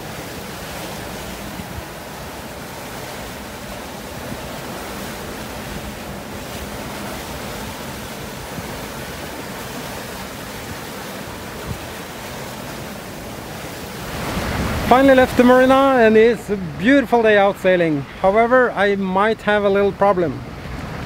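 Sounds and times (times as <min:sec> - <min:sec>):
wind on microphone: 0:00.0 - 0:16.9, 0:20.4 - 0:21.0
waves washing along hull: 0:00.0 - 0:21.0.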